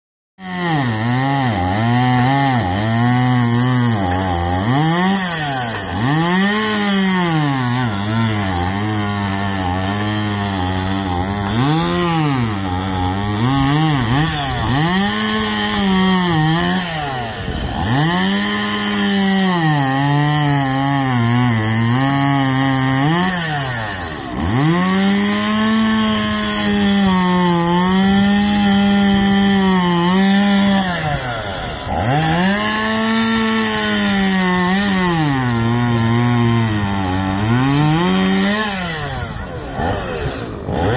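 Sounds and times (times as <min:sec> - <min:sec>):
chainsaw cutting log: 0:00.4 - 0:40.9.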